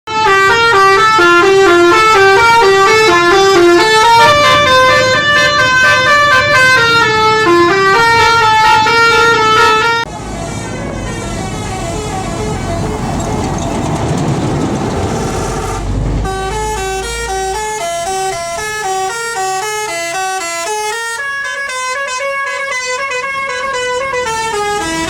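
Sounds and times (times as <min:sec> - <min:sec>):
bus musical horn tune: 0:00.1 - 0:25.0
vehicle noise: 0:00.6 - 0:25.0.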